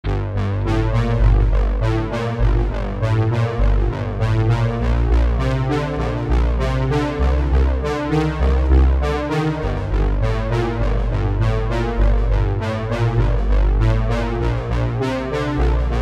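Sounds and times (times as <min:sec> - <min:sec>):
background music with deep bass: 0:00.0 - 0:16.0.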